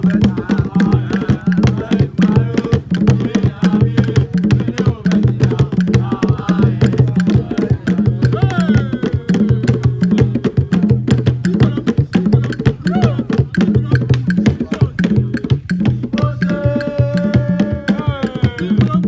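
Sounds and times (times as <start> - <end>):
fast drum beat: 0.0 - 19.0.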